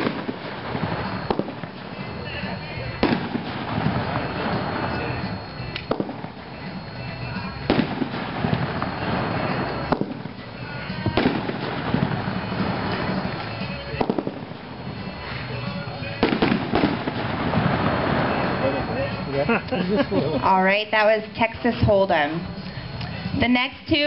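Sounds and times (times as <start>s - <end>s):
firework bangs: 0.0s - 19.6s
firework crackling: 0.0s - 24.0s.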